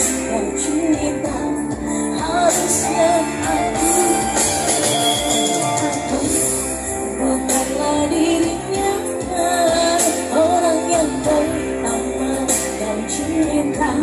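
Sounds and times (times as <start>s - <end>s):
amplified instrumental music: 0.0s - 14.0s
woman singing into microphone: 0.0s - 14.0s.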